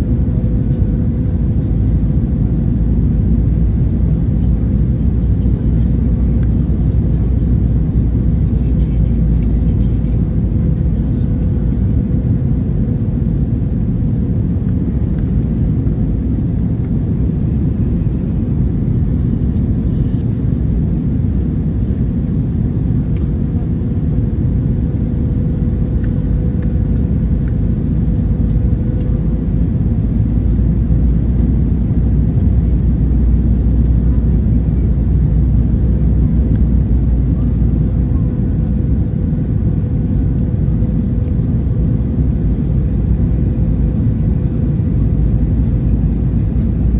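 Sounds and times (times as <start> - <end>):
jet engines and airflow rumble: 0.0 - 46.9.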